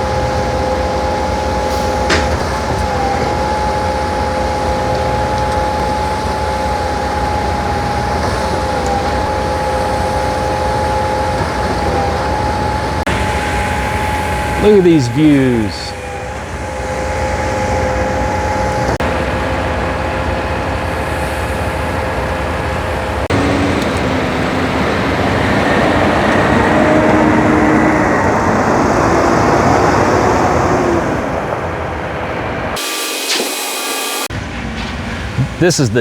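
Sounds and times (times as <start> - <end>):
diesel engine drone: 0.0 - 36.0.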